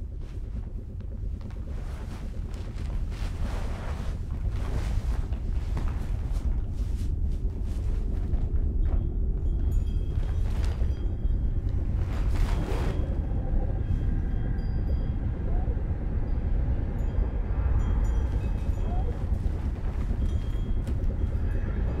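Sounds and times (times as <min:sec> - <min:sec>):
deep rumbling drone: 0:00.0 - 0:22.0.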